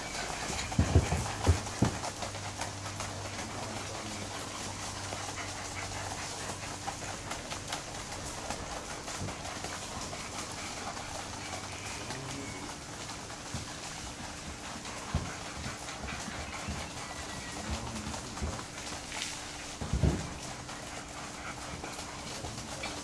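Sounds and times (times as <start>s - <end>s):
hoofbeats on sand: 0.0s - 23.0s.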